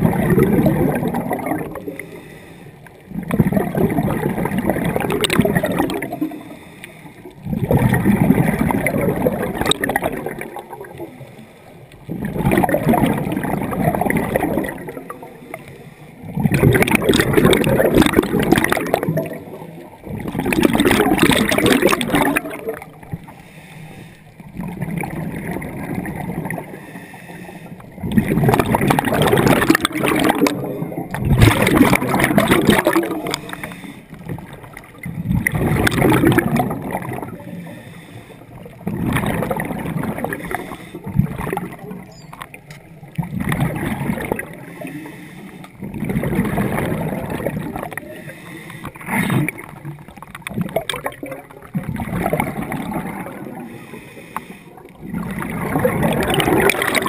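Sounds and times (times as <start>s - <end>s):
air bubbles gurgling underwater: 0.0s - 23.6s, 24.2s - 26.9s, 27.6s - 57.0s.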